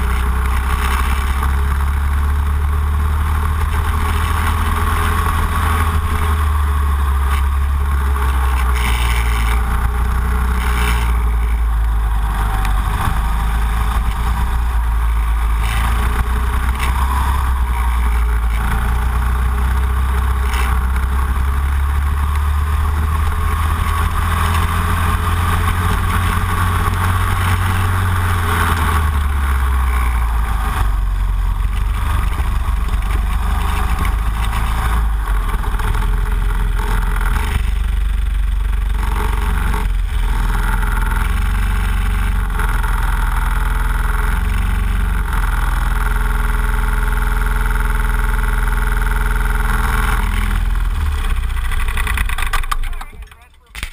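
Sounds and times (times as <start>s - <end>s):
kart engine running hard: 0.0s - 53.2s.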